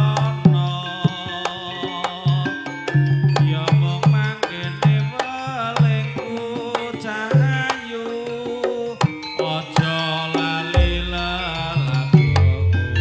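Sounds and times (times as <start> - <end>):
low tuned percussion notes: 0.0 - 13.0
wavering melody: 0.0 - 13.0.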